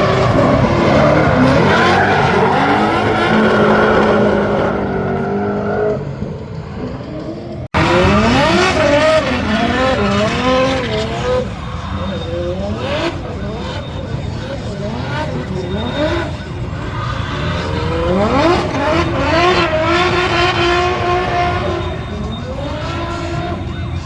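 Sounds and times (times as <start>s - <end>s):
car engine revving hard: 0.0s - 5.9s, 7.7s - 24.0s
tyres squealing and skidding: 0.0s - 24.0s.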